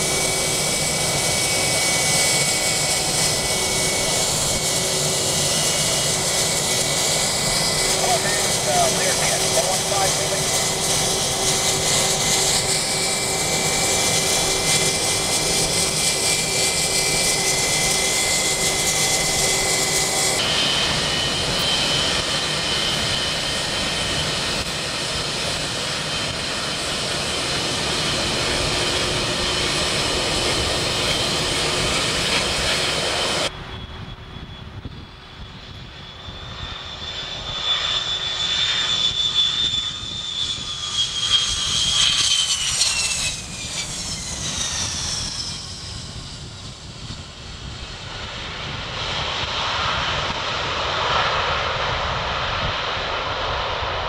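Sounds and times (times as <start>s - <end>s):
jet engines whining while taxiing: 0.0s - 54.0s
jet taking off: 0.0s - 54.0s.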